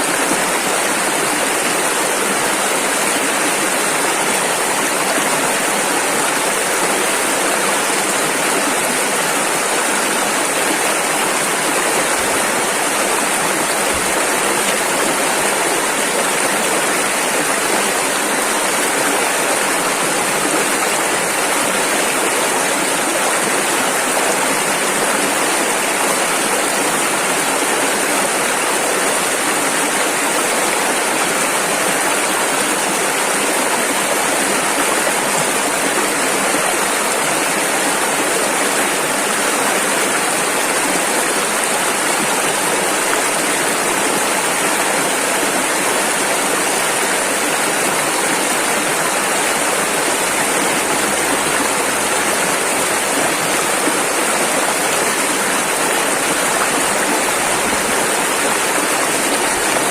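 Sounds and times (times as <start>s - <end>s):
river rapids flowing over rocks: 0.0s - 59.9s.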